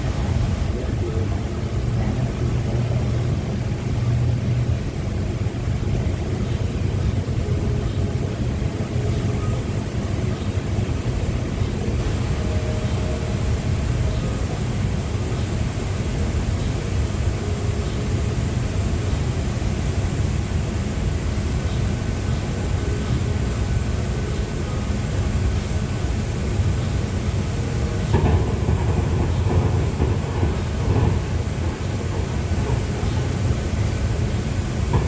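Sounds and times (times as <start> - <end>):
monorail train rumbling: 0.0 - 35.0.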